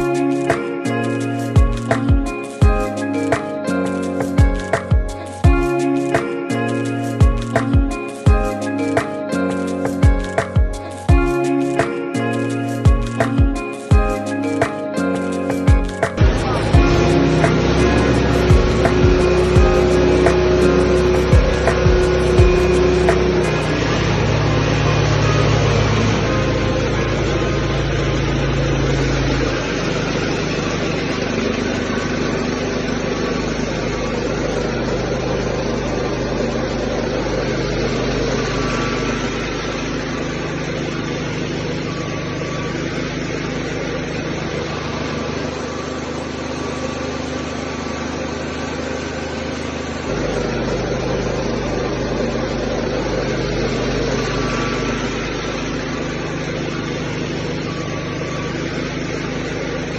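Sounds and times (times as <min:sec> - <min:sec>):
machinery humming and rattling: 0:00.0 - 0:59.9.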